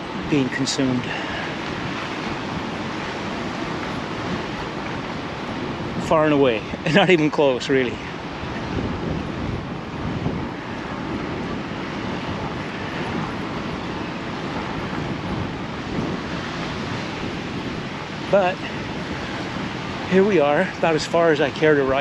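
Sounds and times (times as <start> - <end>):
ocean surf: 0.0 - 22.0
wind rushing over microphone: 0.0 - 22.0.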